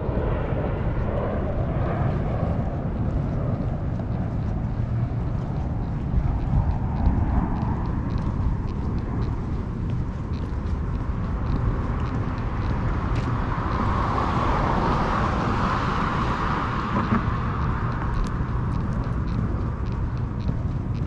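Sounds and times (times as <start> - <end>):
car passing: 0.0 - 21.0
low rumble of city traffic: 0.0 - 21.0.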